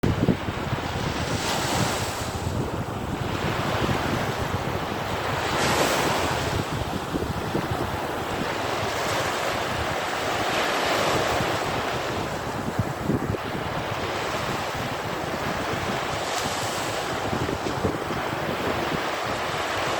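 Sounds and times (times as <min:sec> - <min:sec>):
sea waves breaking on beach: 0:00.0 - 0:19.9
wind buffeting microphone: 0:00.0 - 0:19.9.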